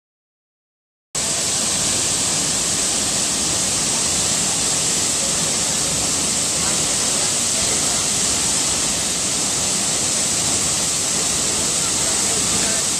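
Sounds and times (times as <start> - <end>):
waterfall rushing: 1.2 - 12.9.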